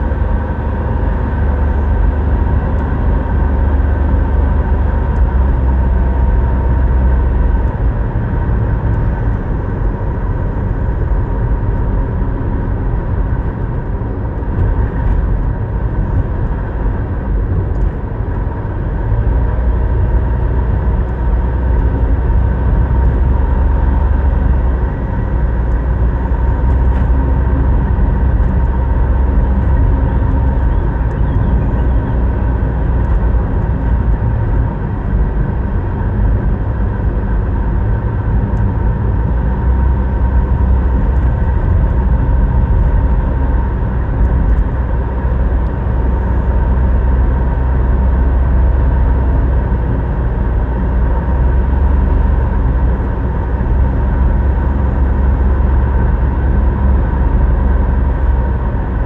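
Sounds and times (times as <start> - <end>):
car engine and tyre rumble: 0.0 - 59.0
faint steady whine: 1.1 - 59.0.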